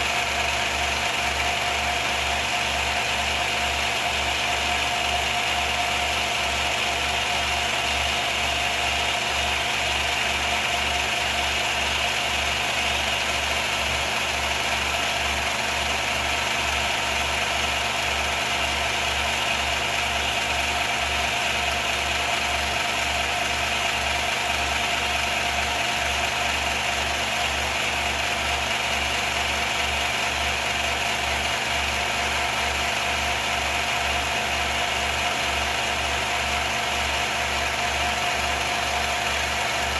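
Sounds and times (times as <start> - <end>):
film projector humming: 0.0 - 39.9.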